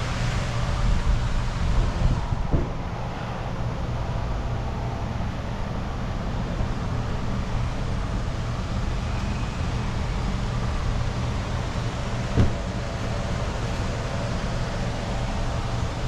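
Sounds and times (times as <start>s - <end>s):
constant wash of noise: 0.0s - 16.0s
low engine hum: 0.0s - 16.0s.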